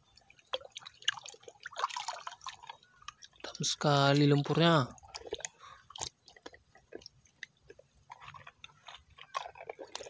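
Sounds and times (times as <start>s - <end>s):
wet squishes of washing toy: 0.2s - 10.0s.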